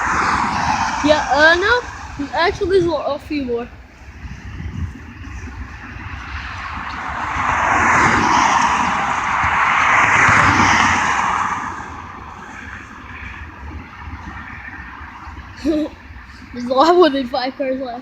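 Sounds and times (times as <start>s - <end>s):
freight cars rolling on rails: 0.0s - 18.0s.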